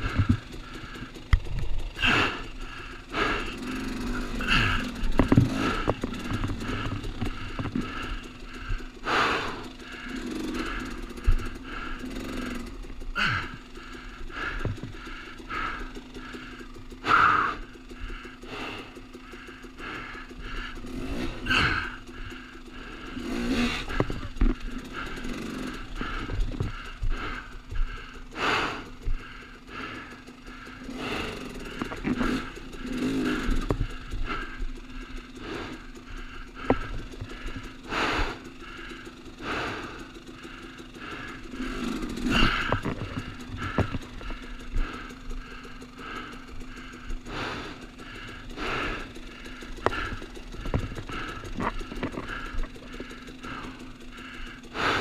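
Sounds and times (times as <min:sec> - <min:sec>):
dirt bike engine idling: 0:00.0 - 0:55.0
engine bursts and clattering: 0:00.0 - 0:55.0.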